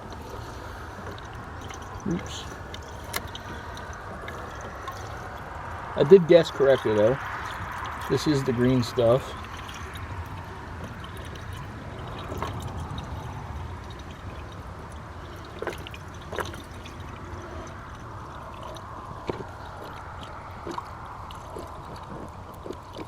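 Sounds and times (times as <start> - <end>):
liquid trickling into tank: 0.0 - 23.0.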